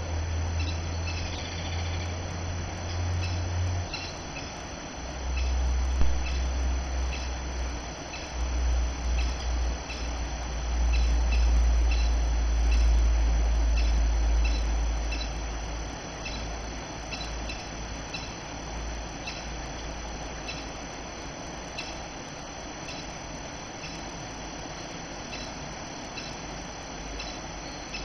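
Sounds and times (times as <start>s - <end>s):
steady low rumble: 0.0s - 22.5s.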